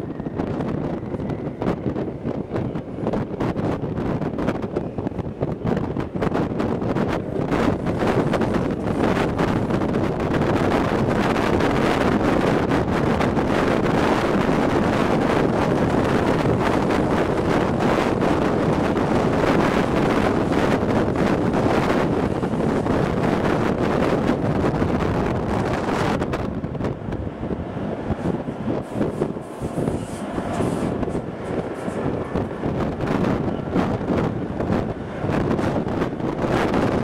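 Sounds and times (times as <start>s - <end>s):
train running on the track: 0.0s - 37.0s
wind buffeting a microphone: 0.0s - 37.0s.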